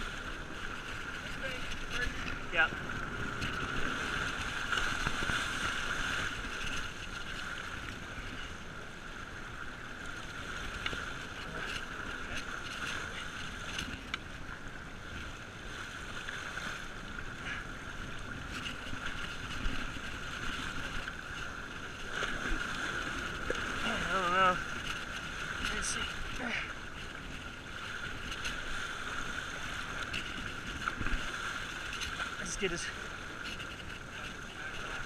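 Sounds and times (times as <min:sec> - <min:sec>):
boat engine noise: 0:00.0 - 0:35.0
water rushing along boat hull: 0:00.0 - 0:35.0.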